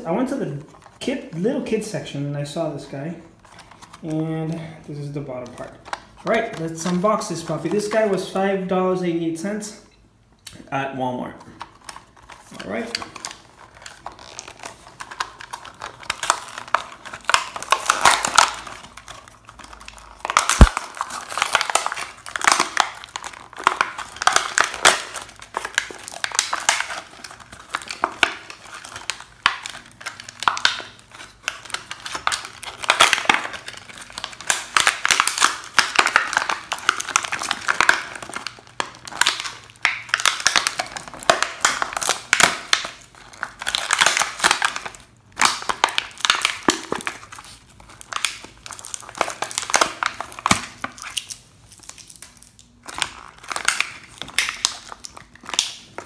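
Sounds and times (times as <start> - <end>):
plastic and cardboard crinkling tearing: 3.3 - 8.4, 11.4 - 56.0.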